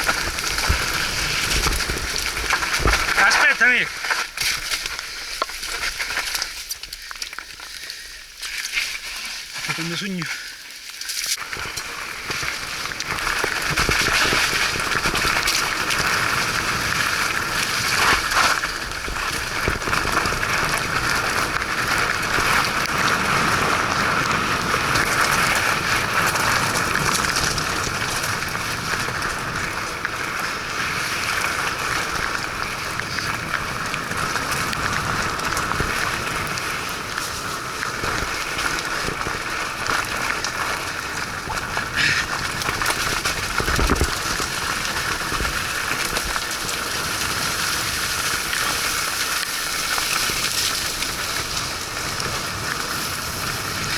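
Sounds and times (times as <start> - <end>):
bike tyres on muddy trail: 0.0 - 53.9
rain hiss and patter: 0.0 - 53.9.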